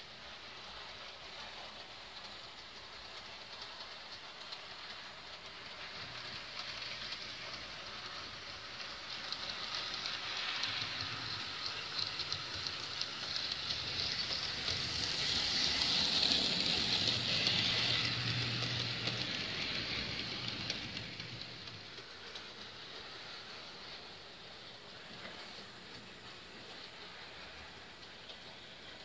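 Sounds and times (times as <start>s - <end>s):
model train rattling whir: 0.0s - 29.0s.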